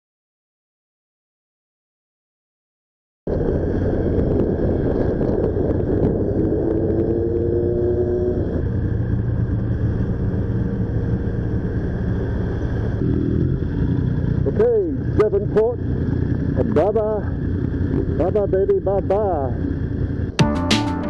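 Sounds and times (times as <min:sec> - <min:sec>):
motorcycle engine rumble: 0:03.3 - 0:21.0.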